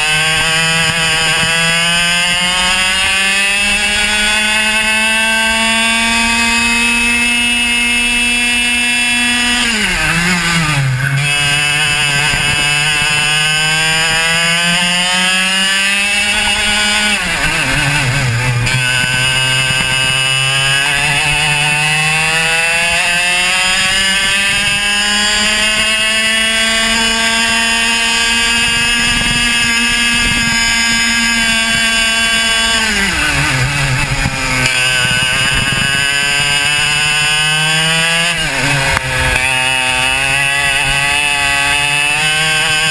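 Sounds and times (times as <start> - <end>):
racing kart engine revving: 0.0 - 42.9.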